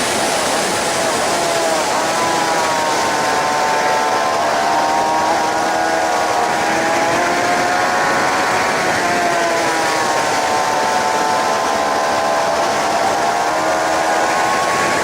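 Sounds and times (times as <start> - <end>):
motorcycle engine running hard: 0.0 - 15.0
wind noise over camera: 0.0 - 15.0.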